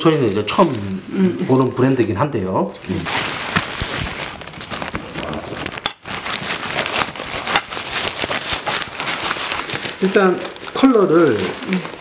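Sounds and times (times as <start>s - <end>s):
nylon bag rustling and crinkling: 0.0s - 2.0s, 2.7s - 12.0s.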